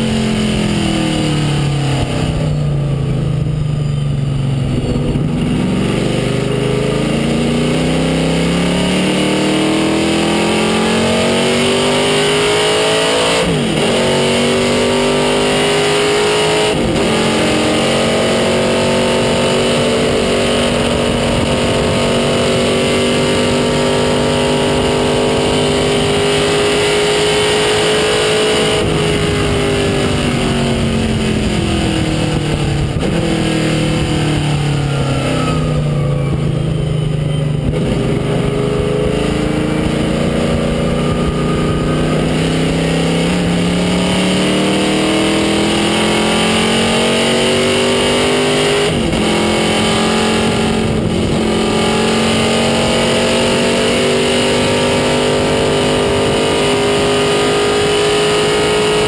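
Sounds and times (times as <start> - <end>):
race car engine from cockpit: 0.0 - 59.0.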